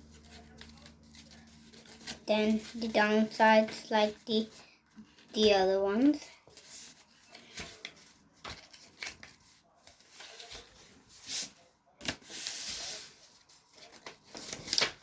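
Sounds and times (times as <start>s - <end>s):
paper being folded and creased: 0.0s - 15.0s.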